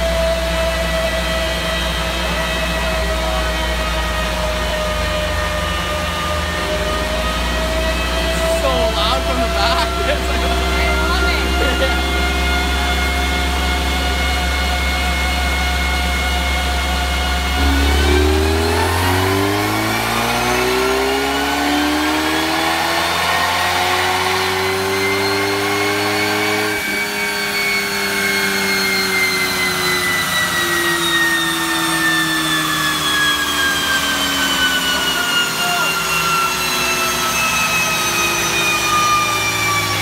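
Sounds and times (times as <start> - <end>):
dyno rollers winding down: 0.0 - 40.0
turbocharged car engine revving: 0.0 - 40.0.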